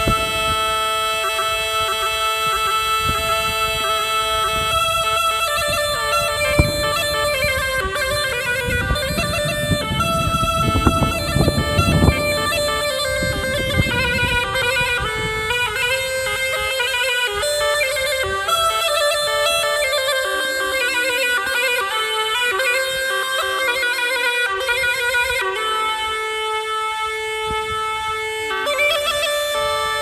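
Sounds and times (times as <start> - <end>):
bagpipe folk melody: 0.0 - 30.0.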